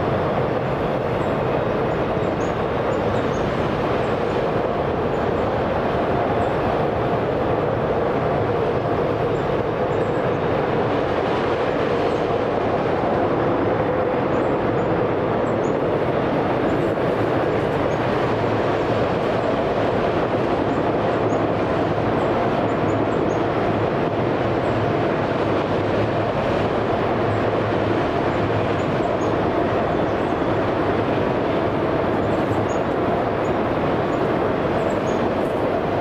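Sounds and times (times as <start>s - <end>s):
freight train wheels rumbling on rail: 0.0s - 36.0s.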